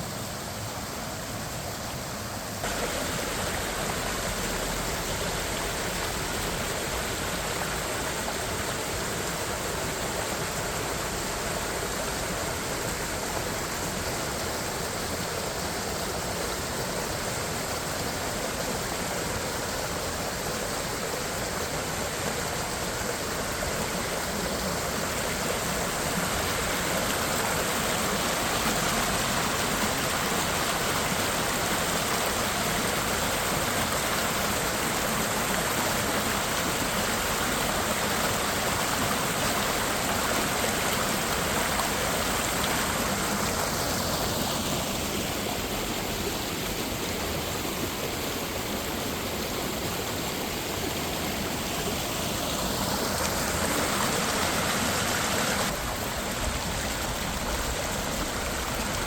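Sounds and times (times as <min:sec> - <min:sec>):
rushing falling water: 0:00.0 - 0:59.0.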